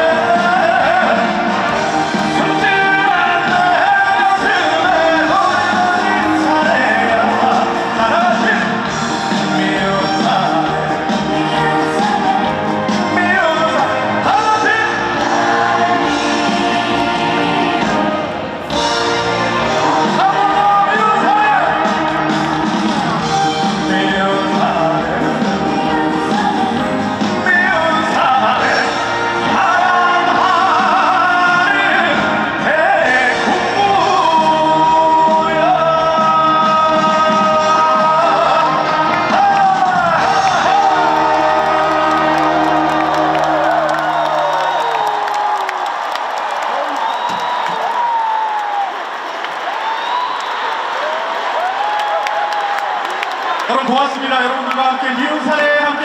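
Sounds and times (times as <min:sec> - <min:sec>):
person singing with live band: 0:00.0 - 0:45.0.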